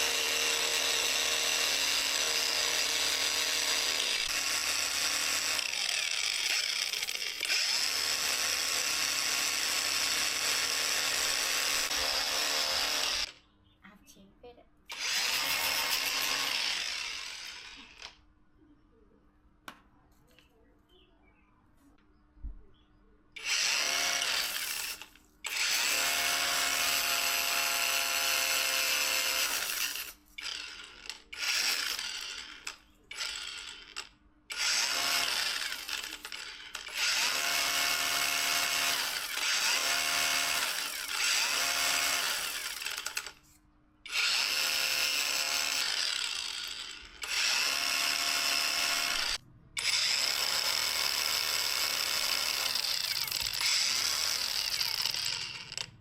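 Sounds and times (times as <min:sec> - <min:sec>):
power tool motor whine: 0:00.0 - 0:13.3, 0:14.9 - 0:18.1, 0:23.4 - 0:43.4, 0:44.1 - 0:55.9.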